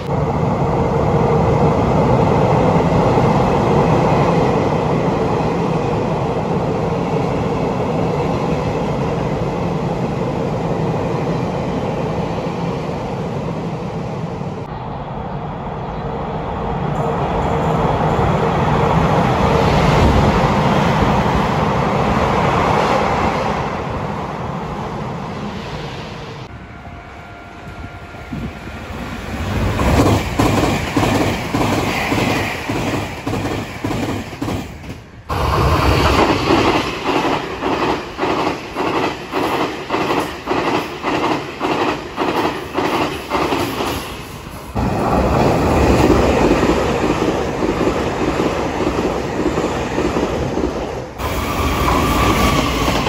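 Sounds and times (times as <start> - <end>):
train approaching: 0.0 - 53.0
train rushing past: 0.0 - 53.0.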